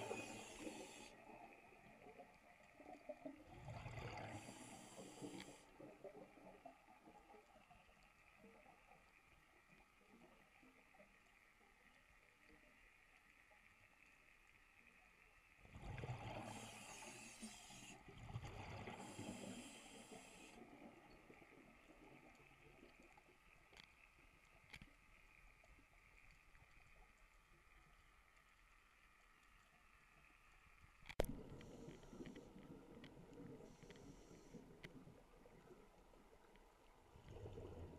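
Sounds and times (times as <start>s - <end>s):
faint clicks: 0.0s - 15.6s, 16.3s - 37.7s
faint steady hiss: 0.0s - 37.9s.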